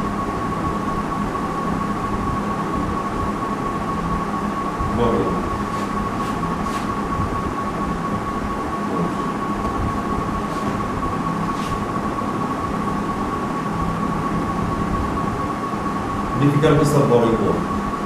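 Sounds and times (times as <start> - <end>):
high-pitched whine: 0.0 - 18.0
mechanical hum and hiss: 0.0 - 18.0.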